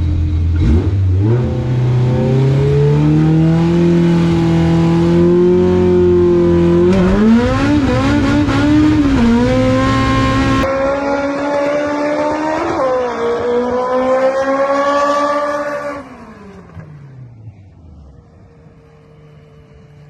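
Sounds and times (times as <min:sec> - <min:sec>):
drag car engine at full throttle: 0:00.0 - 0:20.0.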